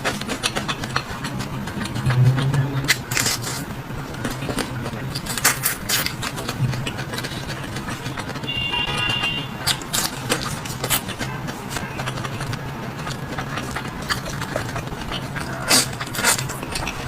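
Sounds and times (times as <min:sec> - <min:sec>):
person eating with wet smacks: 0:00.0 - 0:17.0
steady low hum: 0:00.0 - 0:17.0.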